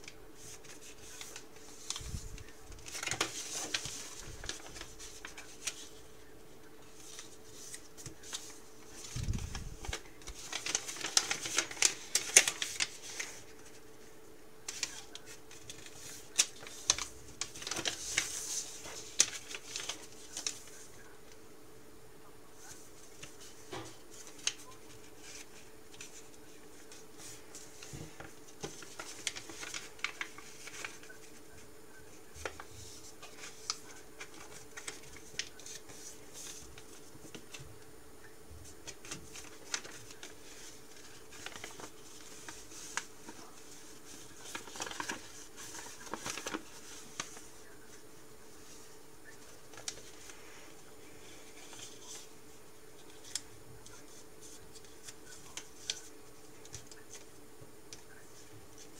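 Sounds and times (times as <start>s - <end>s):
paper crackling and rustling: 0.0s - 21.4s, 22.5s - 58.9s.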